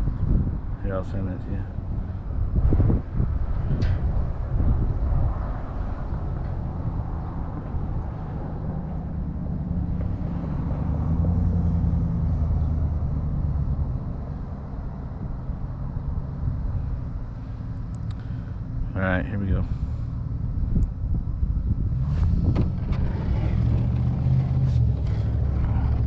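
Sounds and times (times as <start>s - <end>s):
low engine-like rumble: 0.0s - 26.0s.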